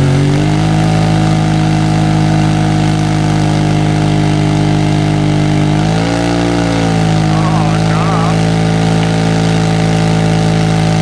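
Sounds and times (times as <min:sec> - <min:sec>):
engine revving: 0:00.0 - 0:11.0
tires spinning: 0:00.0 - 0:11.0.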